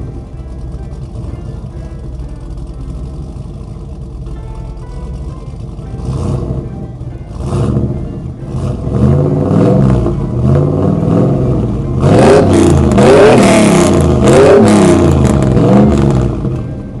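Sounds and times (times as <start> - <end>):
engine revving: 0.0 - 17.0
music: 0.0 - 17.0.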